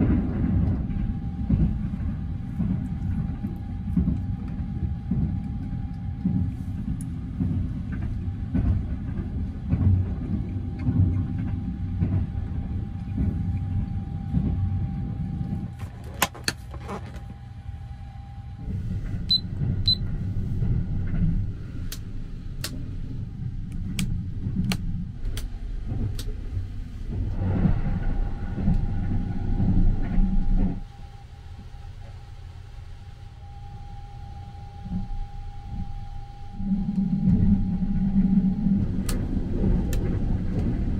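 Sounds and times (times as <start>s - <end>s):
faint hum: 0.0s - 40.9s
train rumble: 0.0s - 40.9s.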